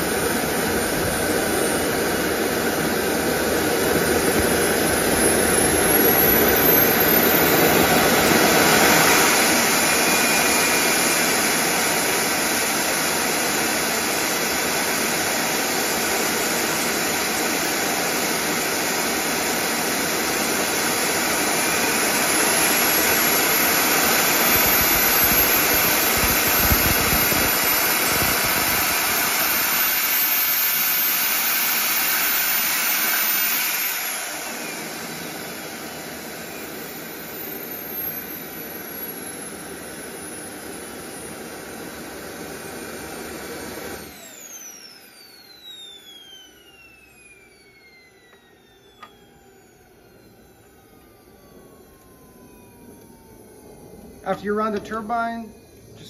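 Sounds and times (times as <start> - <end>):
high turbine whine: 0.0 - 56.0
turbine generator jet-like rush: 0.0 - 56.0.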